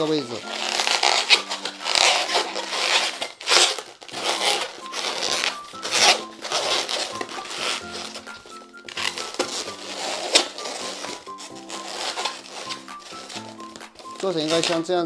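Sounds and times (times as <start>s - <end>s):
balloon rubber squeaking: 0.0s - 15.0s
soft background music: 0.0s - 15.0s.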